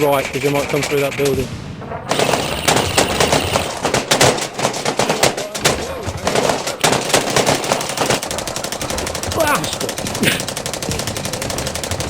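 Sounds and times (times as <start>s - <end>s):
airsoft guns firing: 2.1s - 12.0s.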